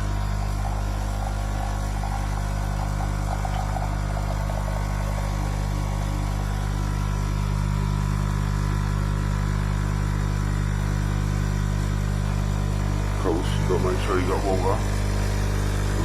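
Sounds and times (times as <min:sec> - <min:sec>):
coffee machine pump buzzing: 0:00.0 - 0:16.0.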